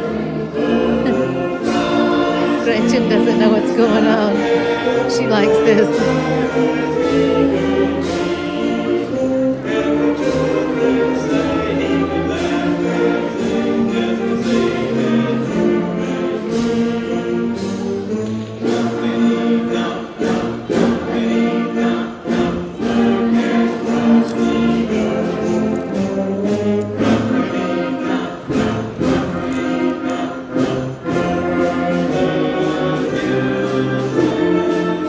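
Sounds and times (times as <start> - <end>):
percussion beats: 0.0 - 35.0
sustained wind instrument notes: 0.0 - 35.0.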